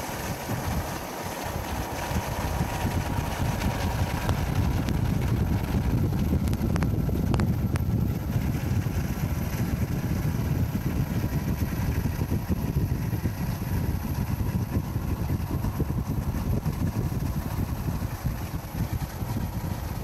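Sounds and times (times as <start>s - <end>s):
boat engine idling: 0.0s - 20.0s
wind buffeting microphone: 0.0s - 20.0s.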